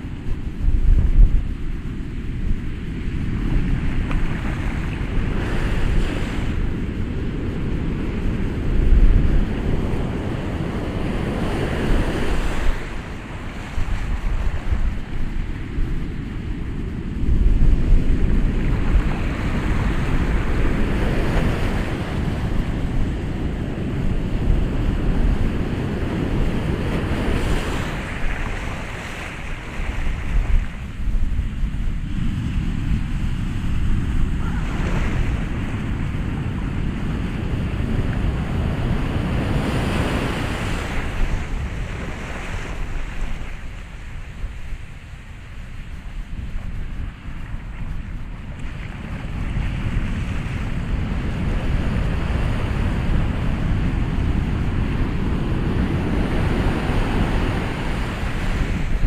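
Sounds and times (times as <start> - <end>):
ocean waves breaking: 0.0 - 59.0
wind rumbling on microphone: 0.0 - 59.0.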